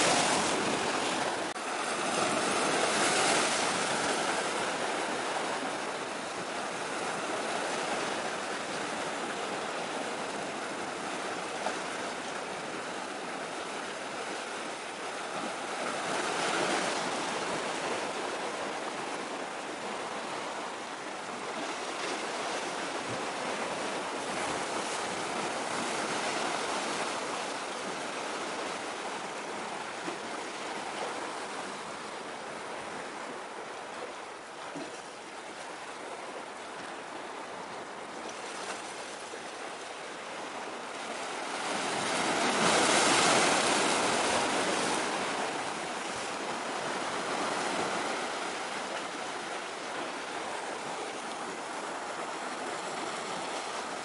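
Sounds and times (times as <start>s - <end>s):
sea surf washing on shore: 0.0s - 54.0s.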